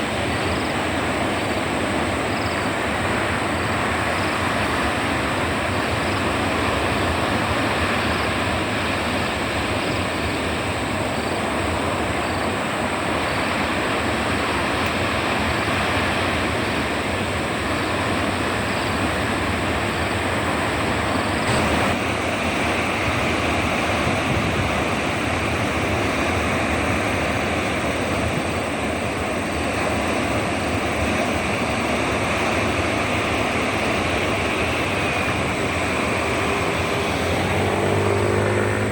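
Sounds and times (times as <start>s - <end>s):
breaking ocean waves: 0.0s - 38.9s.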